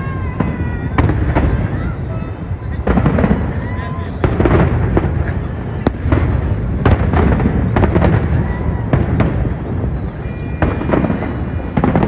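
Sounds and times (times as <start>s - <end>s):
fireworks bangs: 0.0s - 12.0s
low rumble of fireworks bursts: 0.0s - 12.0s.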